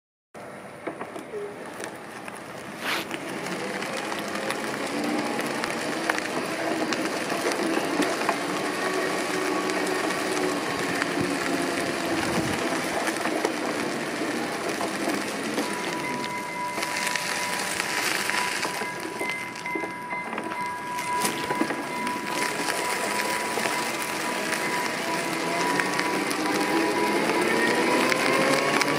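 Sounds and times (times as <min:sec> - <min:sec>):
tyres rolling over asphalt: 0:00.4 - 0:28.9
small ticks and clicks: 0:01.0 - 0:28.9.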